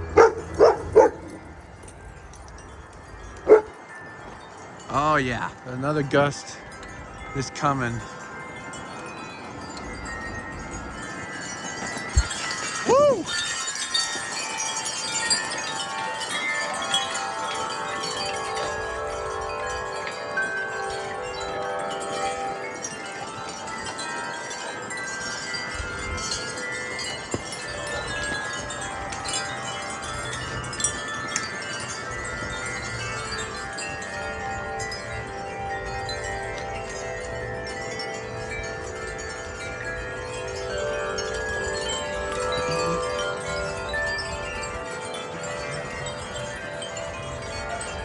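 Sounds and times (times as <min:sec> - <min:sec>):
wind chimes ringing: 0:00.0 - 0:48.0
wind rumble on microphone: 0:08.0 - 0:22.1, 0:22.7 - 0:48.0.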